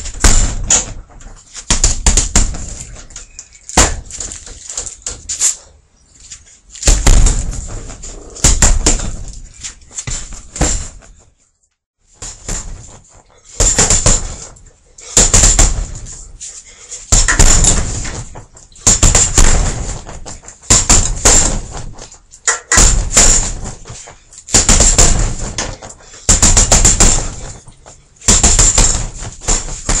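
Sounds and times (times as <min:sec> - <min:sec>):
punches thudding on heavy bag: 0:00.0 - 0:04.6, 0:06.8 - 0:09.4, 0:10.0 - 0:11.2, 0:12.2 - 0:16.4, 0:17.0 - 0:22.1, 0:22.7 - 0:30.0.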